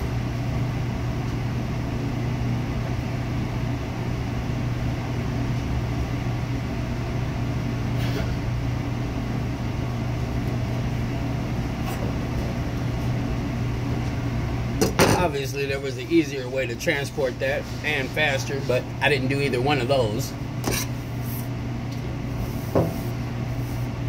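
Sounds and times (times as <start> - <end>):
kitchen equipment humming: 0.0 - 24.0.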